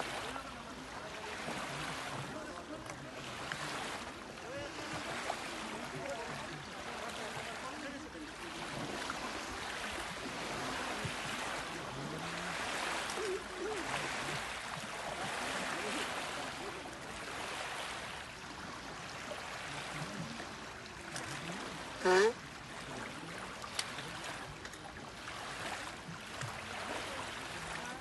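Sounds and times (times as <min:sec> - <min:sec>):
faint distant voices: 0:00.0 - 0:28.0
lake water lapping at shore: 0:00.0 - 0:28.0.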